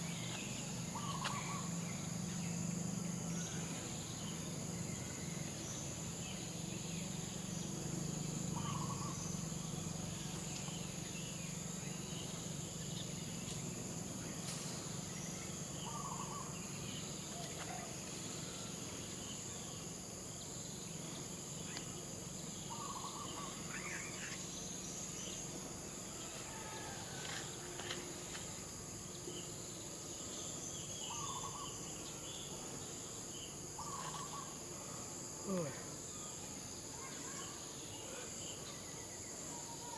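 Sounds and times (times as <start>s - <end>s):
forest insects droning: 0.0s - 39.9s.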